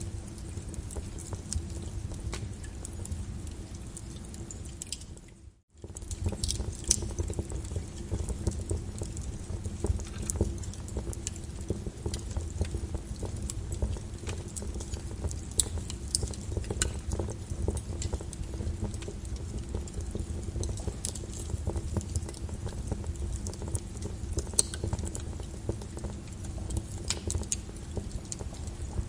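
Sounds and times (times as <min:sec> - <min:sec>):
lava crackling and clicking: 0:00.0 - 0:29.0.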